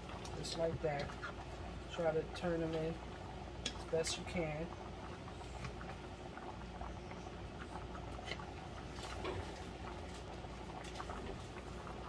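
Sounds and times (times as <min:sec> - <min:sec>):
gravy bubbling in a pan: 0:00.0 - 0:12.0.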